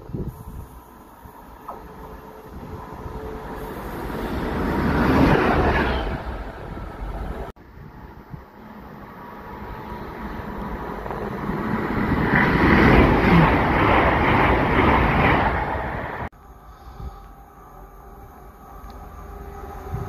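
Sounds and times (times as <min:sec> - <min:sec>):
diesel locomotive approaching: 0:00.0 - 0:20.0
train passing at speed: 0:00.0 - 0:20.0.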